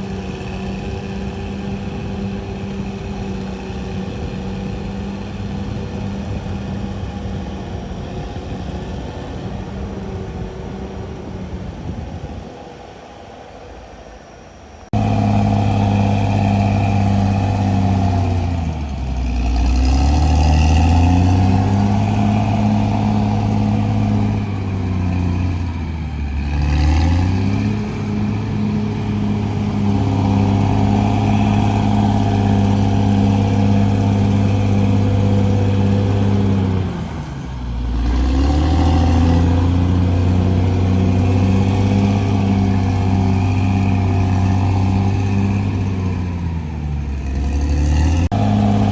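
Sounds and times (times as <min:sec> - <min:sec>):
bulldozer diesel engine running hard: 0:00.0 - 0:12.1, 0:14.9 - 0:48.9.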